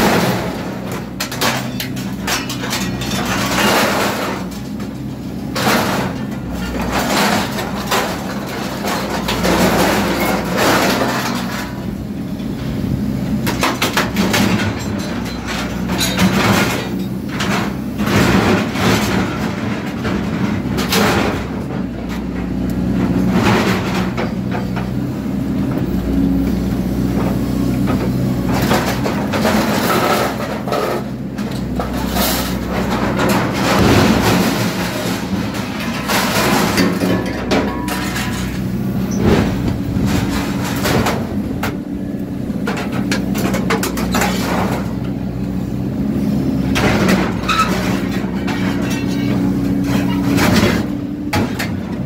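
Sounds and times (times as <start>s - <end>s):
metal pieces clanking into skip: 0.0s - 12.5s, 13.4s - 22.2s, 27.9s - 41.8s, 42.6s - 45.0s, 46.7s - 52.0s
excavator diesel engine running: 0.0s - 52.0s.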